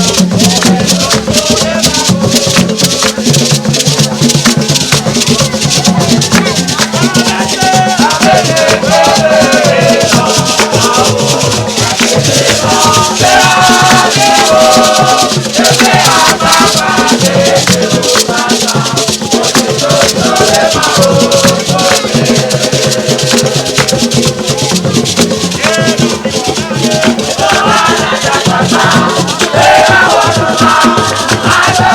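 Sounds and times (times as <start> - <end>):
shakers rattling: 0.0 - 31.9
voices singing chanted melody: 0.0 - 31.9.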